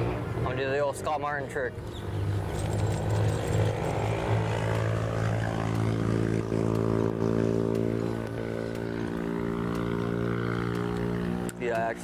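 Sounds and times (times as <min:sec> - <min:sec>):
electric motor humming: 0:02.2 - 0:12.0.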